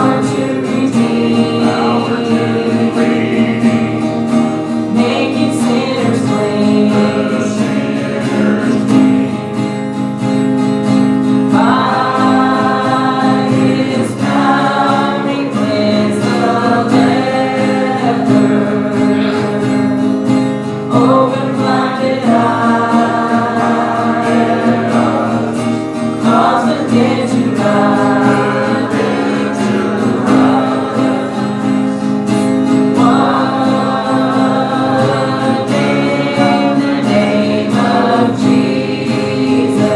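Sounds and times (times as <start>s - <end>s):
congregation singing a hymn: 0.0s - 39.9s
instrumental accompaniment: 0.0s - 39.9s.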